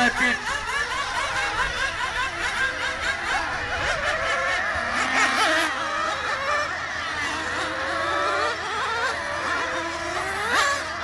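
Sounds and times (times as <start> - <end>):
rc car engines whining: 0.0 - 11.0.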